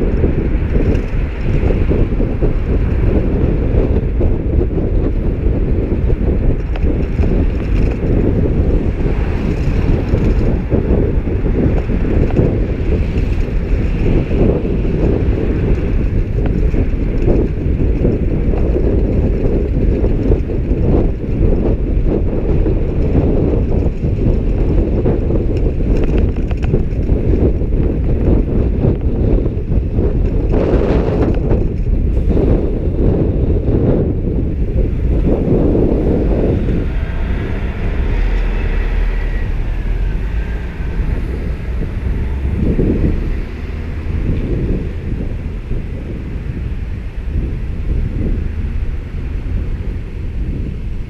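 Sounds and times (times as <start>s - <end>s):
road traffic noise: 0.0s - 51.0s
wind on microphone: 0.0s - 51.0s.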